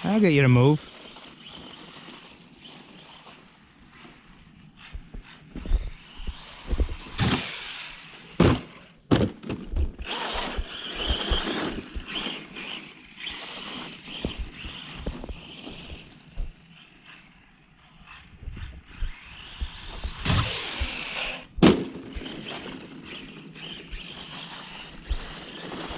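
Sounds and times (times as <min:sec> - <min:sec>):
electric motor whining: 0:00.0 - 0:08.9, 0:09.8 - 0:25.9.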